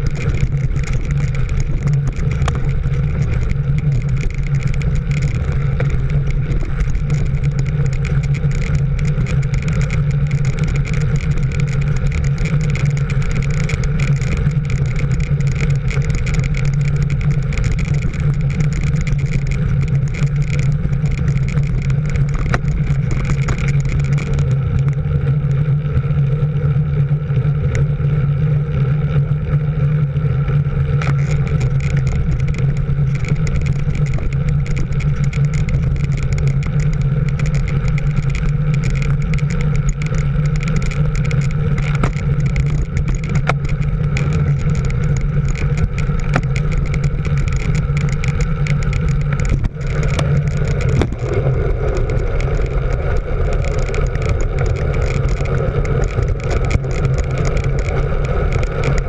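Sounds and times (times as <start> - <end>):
road noise: 0.0 - 59.0
vehicle engine drone: 0.0 - 59.0.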